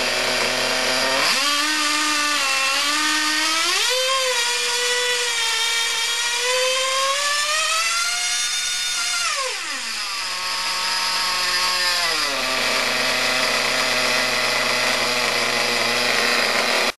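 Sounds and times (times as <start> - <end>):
model motor whining: 0.0 - 17.0.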